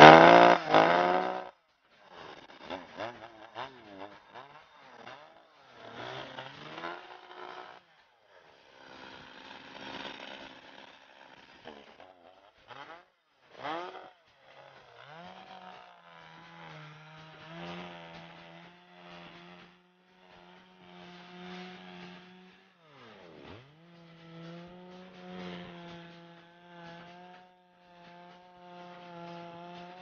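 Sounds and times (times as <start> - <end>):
chainsaw sawing through ice: 0.0 - 30.0.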